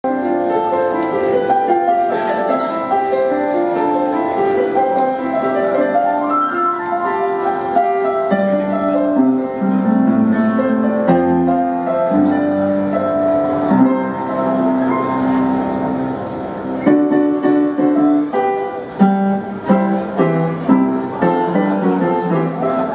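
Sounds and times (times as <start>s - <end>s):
piano playing slow melody: 0.0s - 22.9s.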